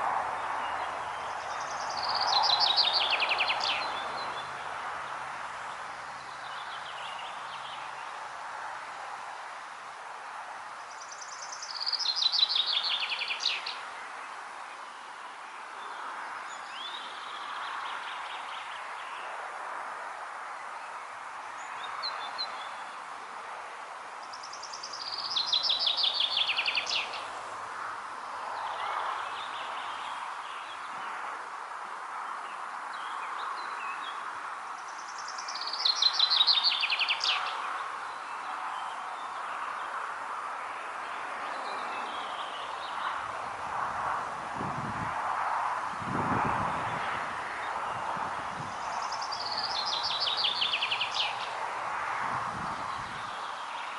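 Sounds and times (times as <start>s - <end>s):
songbird singing: 0.0s - 53.9s
steady rushing wind: 0.0s - 53.9s.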